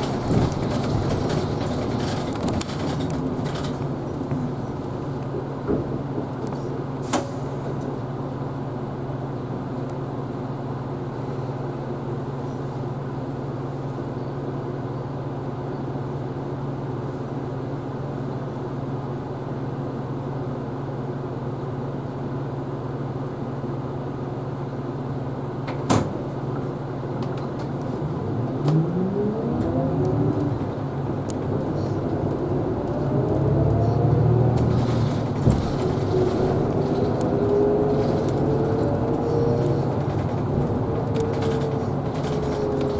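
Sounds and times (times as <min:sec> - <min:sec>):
bus accelerating whine: 0:00.0 - 0:42.9
bus engine low hum: 0:00.0 - 0:42.9.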